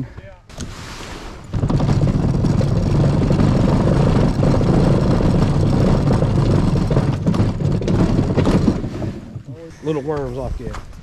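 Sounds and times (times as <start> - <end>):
kayak hull scraping on ramp: 0.5 - 10.0.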